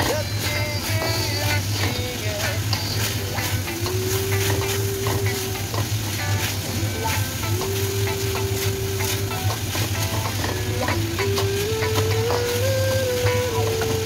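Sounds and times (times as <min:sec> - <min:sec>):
spatula scraping a wok: 0:00.0 - 0:12.6
food sizzling in a wok: 0:00.0 - 0:14.0
utensil clicking against pan: 0:00.0 - 0:14.0.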